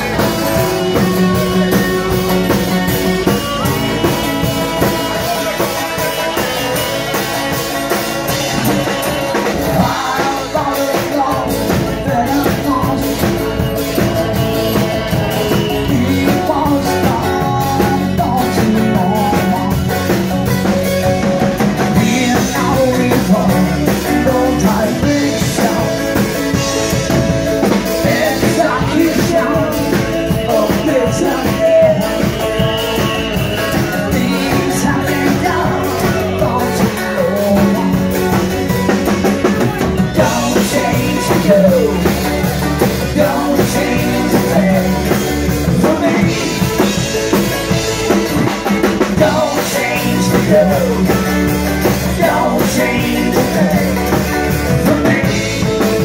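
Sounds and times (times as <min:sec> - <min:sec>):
drum kit: 0:00.0 - 0:56.0
person singing: 0:00.0 - 0:56.0
strummed acoustic guitars: 0:00.0 - 0:56.0.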